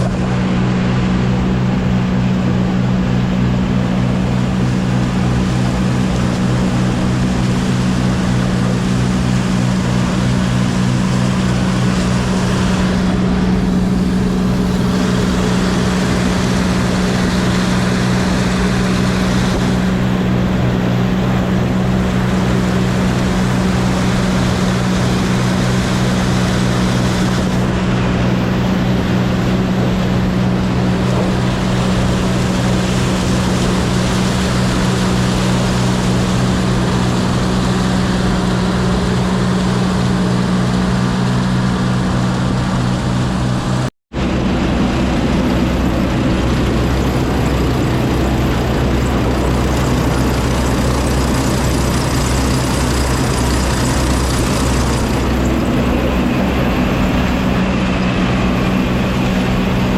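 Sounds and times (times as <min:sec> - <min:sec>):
combine harvester engine droning: 0:00.0 - 0:59.9.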